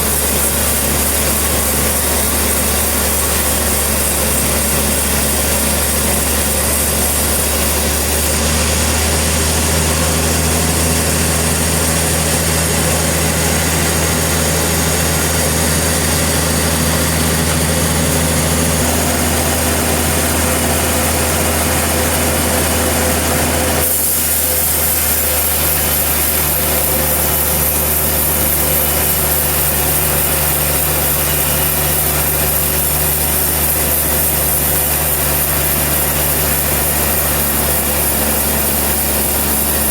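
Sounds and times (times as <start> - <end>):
saw blade cutting log: 0.0 - 39.9
sawmill engine running: 0.0 - 39.9.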